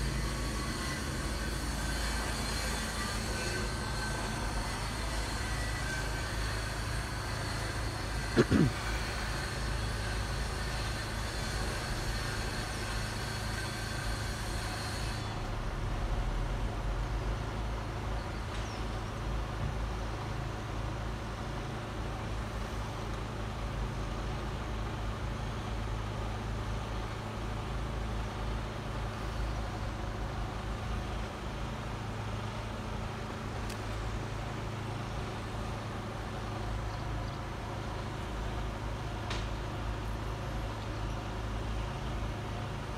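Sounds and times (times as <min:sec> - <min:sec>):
low rumble of road vehicles: 0:00.0 - 0:42.9.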